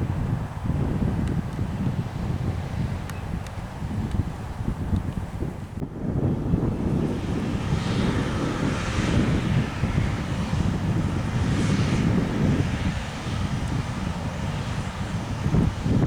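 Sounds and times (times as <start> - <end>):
combine harvester drone: 0.0 - 16.0
wind buffeting microphone: 0.0 - 16.0.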